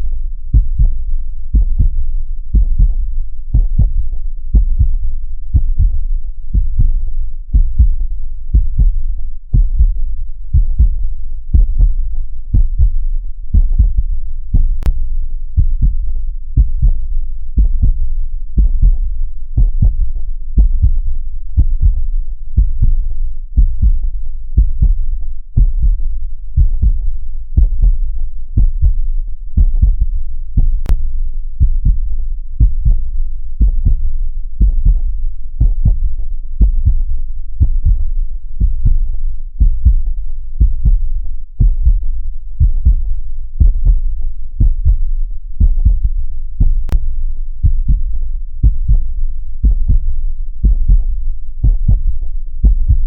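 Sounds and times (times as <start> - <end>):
heartbeat double thumps: 0.0 - 53.0.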